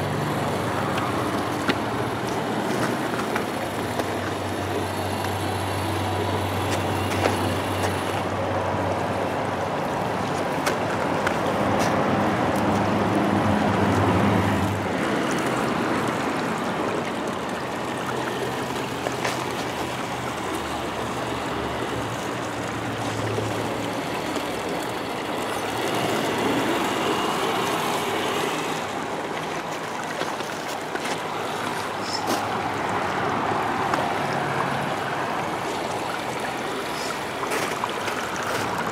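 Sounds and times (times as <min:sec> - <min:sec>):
toy truck motors humming: 0:00.0 - 0:11.6, 0:12.6 - 0:38.9
stream flowing and gurgling: 0:00.0 - 0:38.9.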